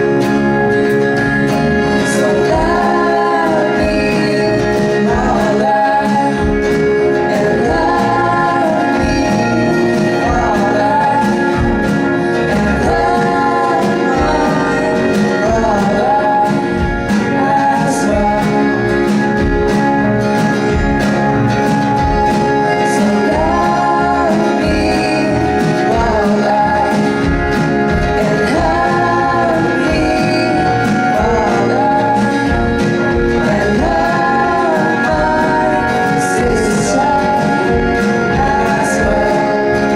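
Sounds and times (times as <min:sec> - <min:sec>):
band playing a song: 0:00.0 - 0:39.9
person singing: 0:00.0 - 0:39.9.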